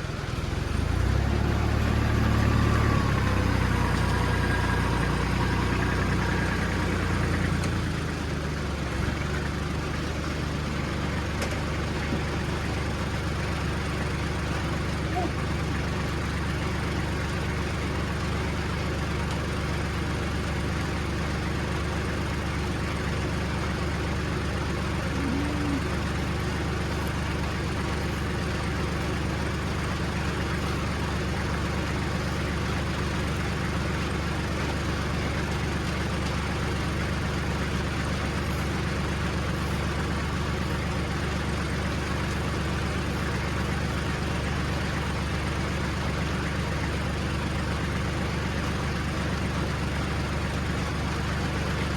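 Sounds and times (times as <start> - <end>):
vehicle engine running steadily: 0.0 - 51.9.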